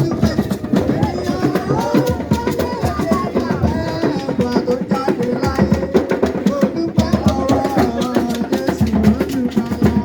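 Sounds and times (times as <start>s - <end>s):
music with fast drumming: 0.0s - 10.0s.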